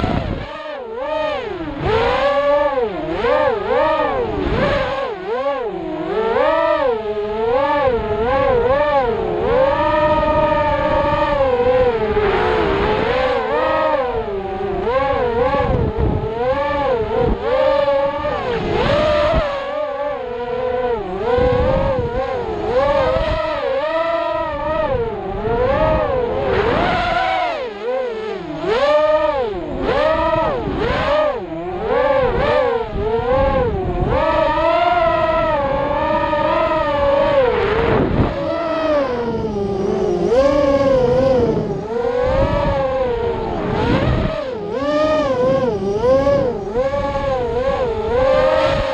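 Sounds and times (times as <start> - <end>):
quadcopter motors whining: 0.0 - 48.9.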